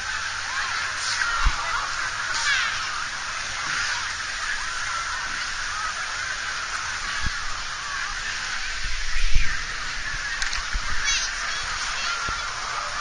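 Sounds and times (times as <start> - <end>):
distant shouts of swimmers: 0.0 - 13.0
muffled water washing: 0.0 - 13.0.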